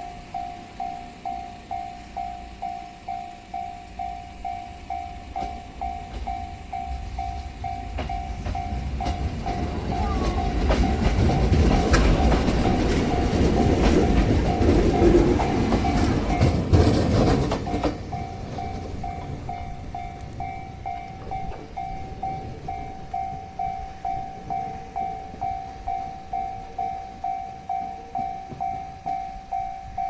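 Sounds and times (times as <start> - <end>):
level crossing bell dinging: 0.0 - 16.8, 17.7 - 30.0
train passing: 0.0 - 30.0
train wheels clacking on rails: 0.0 - 30.0.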